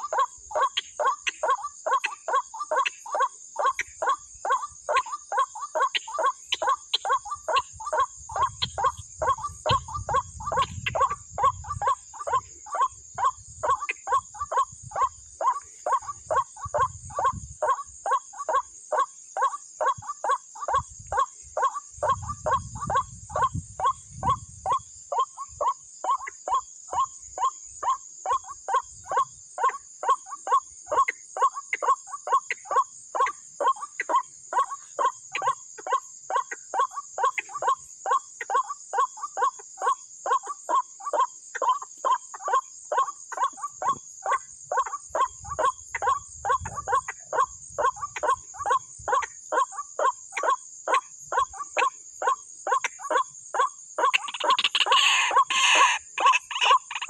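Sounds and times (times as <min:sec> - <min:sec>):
crickets chirping: 0:00.0 - 0:57.0
waterhen clucking calls: 0:00.0 - 0:57.0.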